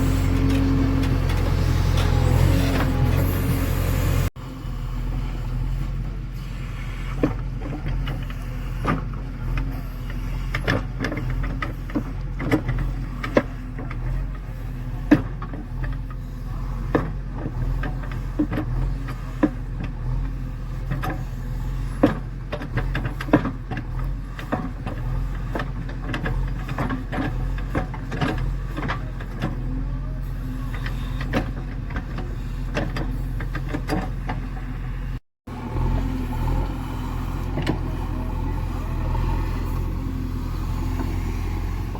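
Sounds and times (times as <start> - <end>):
heavy diesel machine running: 0.0 - 41.9.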